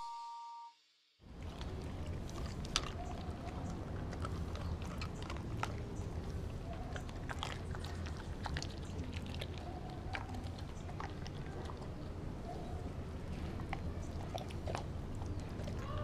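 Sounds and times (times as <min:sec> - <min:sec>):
dog chewing meat: 0:01.3 - 0:16.0.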